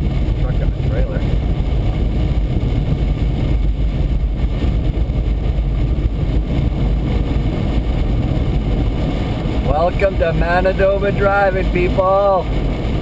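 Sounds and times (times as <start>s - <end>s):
car driving at highway speed: 0.0s - 13.0s.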